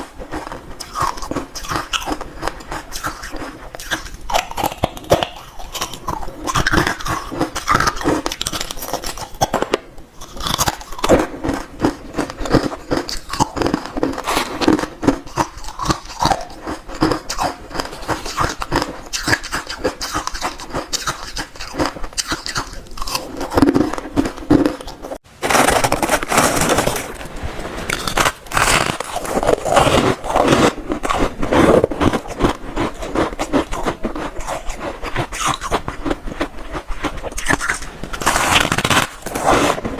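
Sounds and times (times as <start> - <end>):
ice being chewed: 0.0 - 27.1, 27.9 - 39.9.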